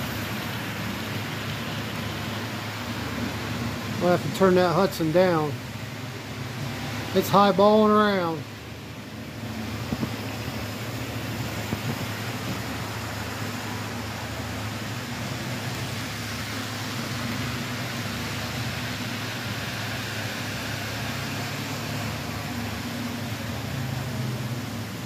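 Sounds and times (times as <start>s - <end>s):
model trains whirring on rails: 0.0s - 25.0s.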